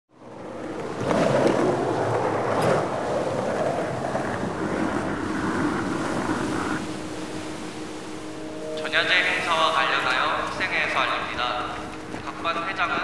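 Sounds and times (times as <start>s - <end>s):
wind: 0.1s - 13.0s
surf washing over rocks: 0.5s - 13.0s.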